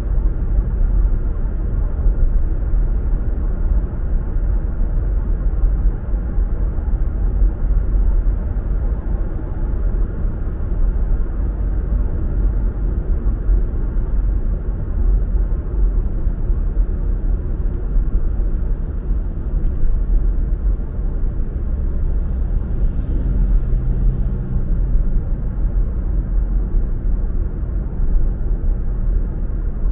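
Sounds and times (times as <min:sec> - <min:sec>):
car driving road and engine noise: 0:00.0 - 0:29.9
low droning hum: 0:00.0 - 0:29.9.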